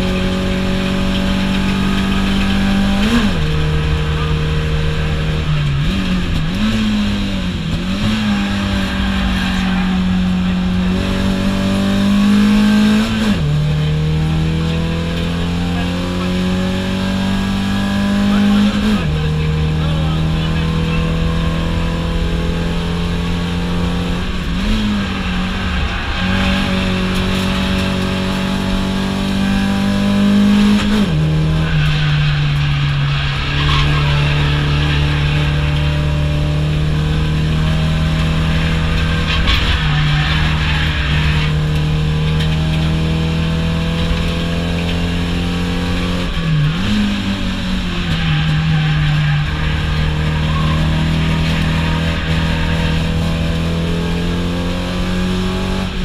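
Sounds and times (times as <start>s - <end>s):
car engine from inside cabin: 0.0s - 56.0s
tyre and road noise: 0.0s - 56.0s.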